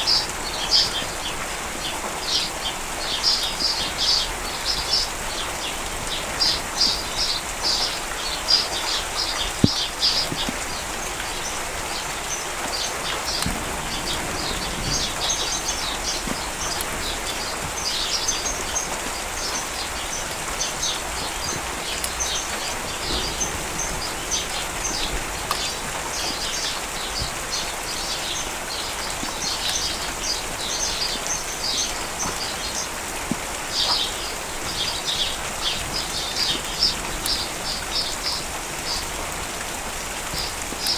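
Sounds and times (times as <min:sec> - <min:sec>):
birds chirping: 0:00.0 - 0:40.9
steady rain falling: 0:00.0 - 0:40.9.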